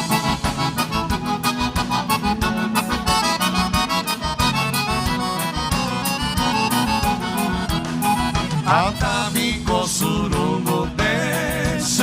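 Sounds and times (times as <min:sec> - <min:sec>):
button accordion melody: 0:00.0 - 0:12.0
dance band playing: 0:00.0 - 0:12.0.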